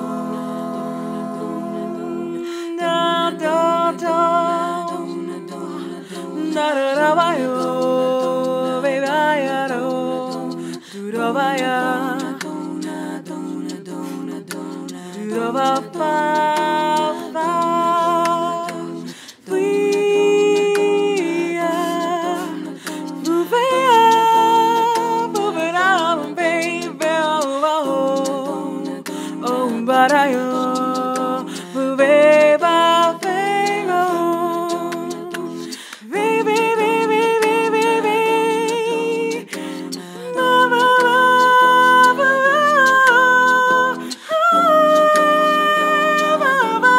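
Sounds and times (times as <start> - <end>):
women singing a cappella: 0.0 - 46.9.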